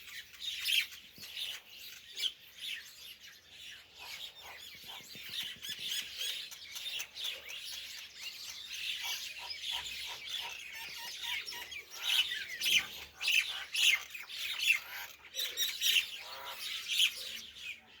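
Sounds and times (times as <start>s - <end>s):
birds chirping: 0.0s - 18.0s
loud bird calls: 0.0s - 18.0s.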